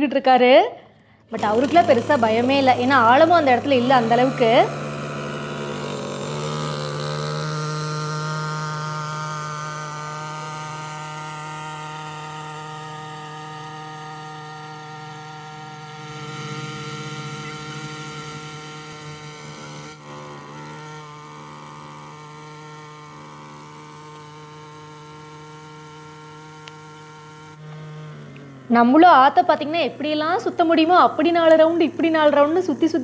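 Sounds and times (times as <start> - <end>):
outboard boat motor running: 1.4 - 33.0.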